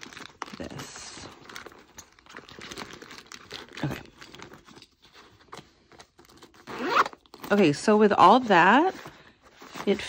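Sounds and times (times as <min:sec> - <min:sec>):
nylon pouch rustling and crinkling: 0:00.0 - 0:10.0.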